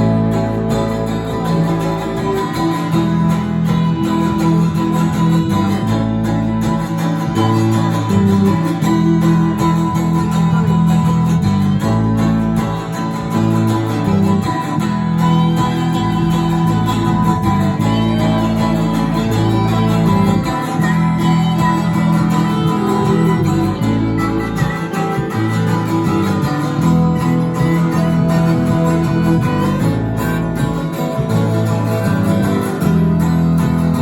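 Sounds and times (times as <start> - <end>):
guitar instrumental music: 0.0 - 34.0.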